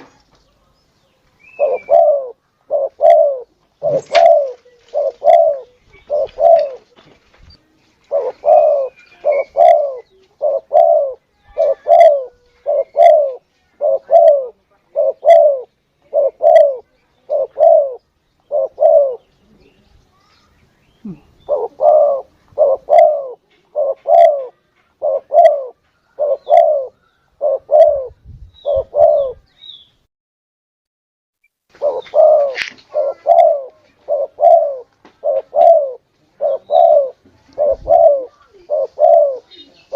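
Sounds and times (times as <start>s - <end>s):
dove cooing: 1.4s - 7.0s, 8.0s - 19.6s, 21.0s - 29.5s, 31.7s - 39.9s.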